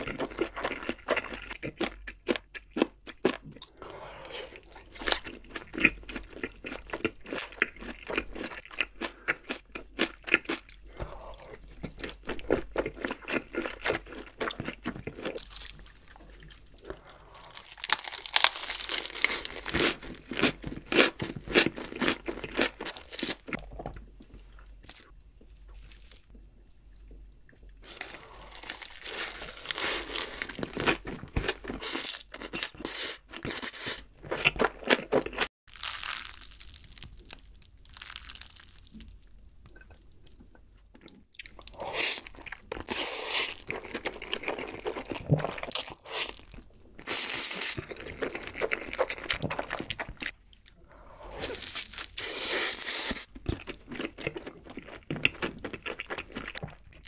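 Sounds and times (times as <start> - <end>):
crunchy bites and chewing: 0.0 - 25.1, 27.8 - 57.0.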